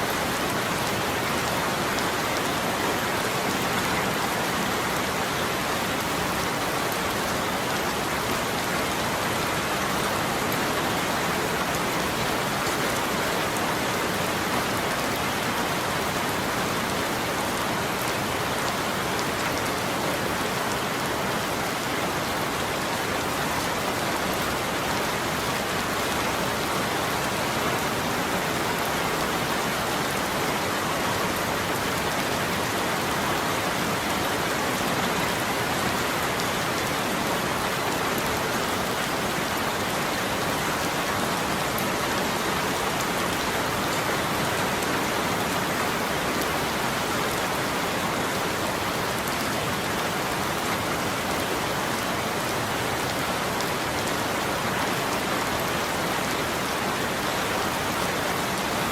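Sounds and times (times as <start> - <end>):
steady rainfall hiss: 0.0 - 58.9.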